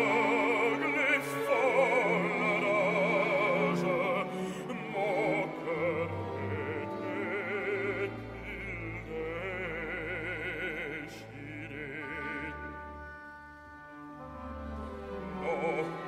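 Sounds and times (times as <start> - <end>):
operatic baritone singing: 0.0 - 13.2, 15.0 - 16.0
orchestral accompaniment: 0.0 - 16.0.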